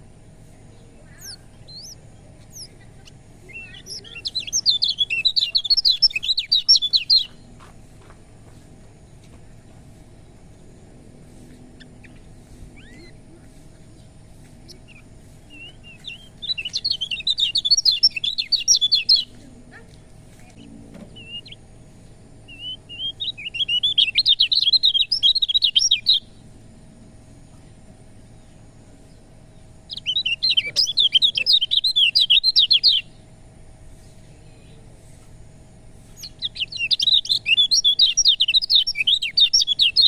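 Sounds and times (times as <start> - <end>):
bird chattering song: 0.0 - 26.6, 27.6 - 40.0.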